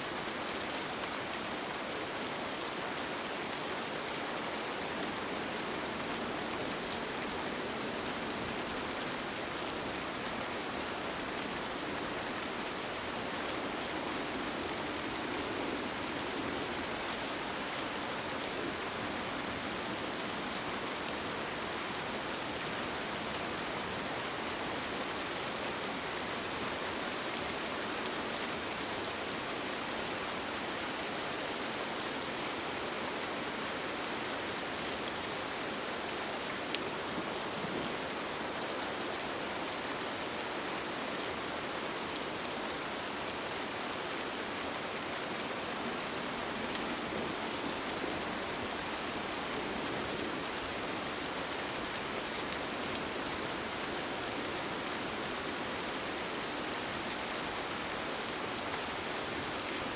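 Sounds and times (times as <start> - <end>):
rain falling on a tent: 0.0 - 59.9.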